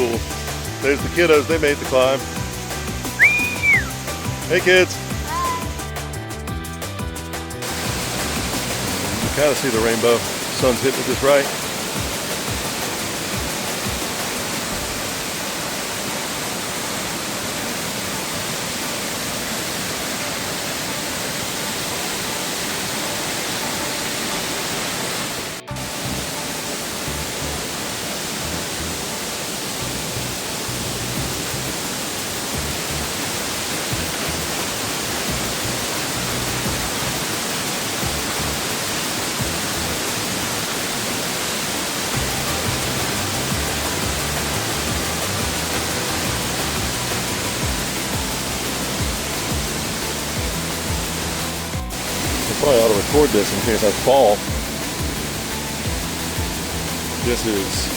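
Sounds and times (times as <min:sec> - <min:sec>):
waterfall rushing: 0:00.0 - 0:06.1, 0:07.5 - 0:57.9.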